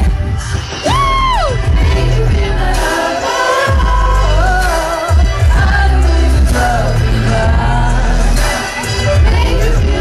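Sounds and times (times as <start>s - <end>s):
pop song with heavy bass beat: 0.0s - 10.0s
person singing into a microphone: 0.4s - 10.0s.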